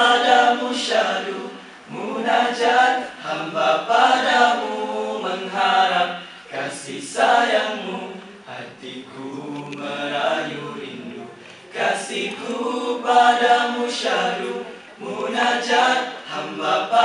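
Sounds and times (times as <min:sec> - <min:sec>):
men singing a cappella: 0:00.0 - 0:17.0.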